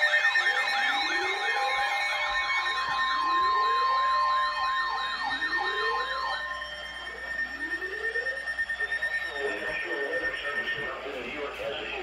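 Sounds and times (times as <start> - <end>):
fast warbling siren: 0.0 - 12.0
slower whooping siren: 0.0 - 12.0
steady high tones: 0.0 - 12.0.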